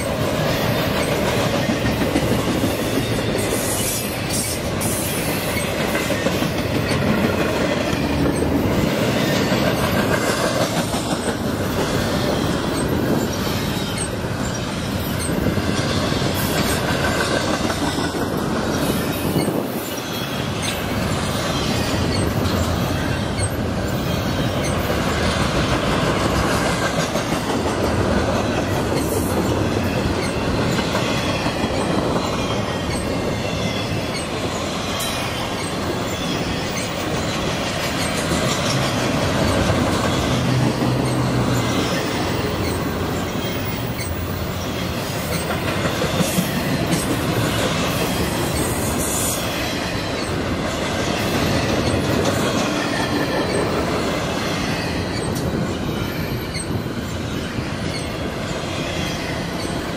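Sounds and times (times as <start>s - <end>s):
clickety-clack over rail joints: 0.0s - 59.9s
freight train wheels rumbling on rail: 0.0s - 59.9s.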